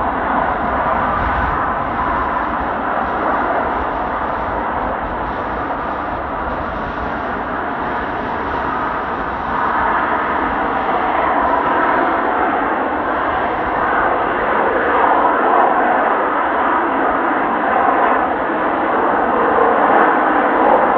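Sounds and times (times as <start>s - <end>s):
jet engine noise: 0.0s - 20.9s
wind buffeting microphone: 0.0s - 20.9s.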